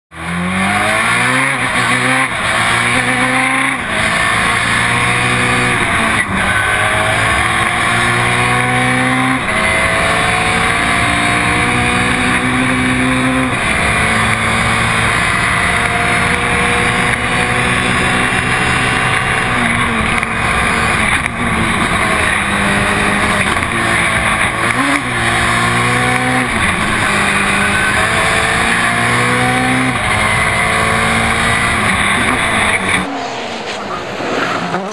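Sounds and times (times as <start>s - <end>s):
rally car engine revving hard: 0.1s - 34.9s.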